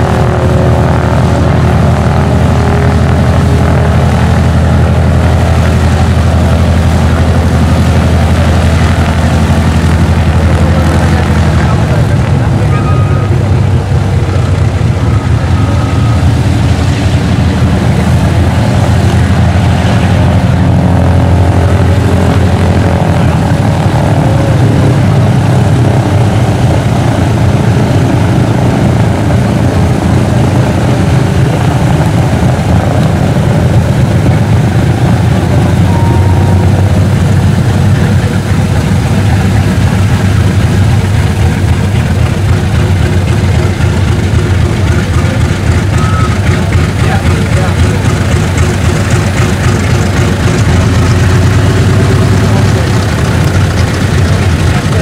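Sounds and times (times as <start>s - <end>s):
propeller plane engines droning: 0.0s - 55.0s.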